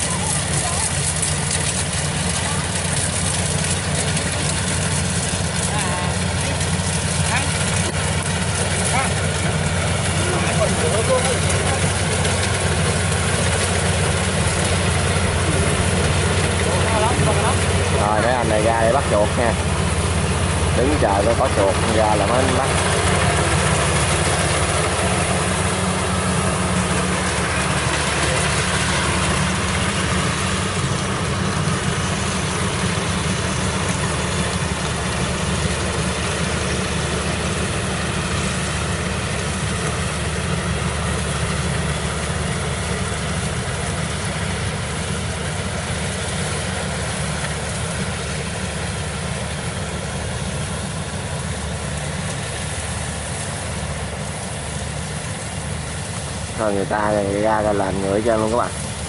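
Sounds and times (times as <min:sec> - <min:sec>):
diesel engine droning: 0:00.0 - 0:59.0
harvester threshing rush: 0:00.0 - 0:59.0.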